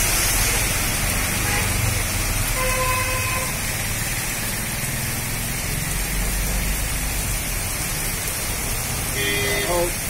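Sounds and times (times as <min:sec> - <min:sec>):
heavy rain falling: 0:00.0 - 0:10.0
low rumble of road traffic: 0:00.0 - 0:10.0.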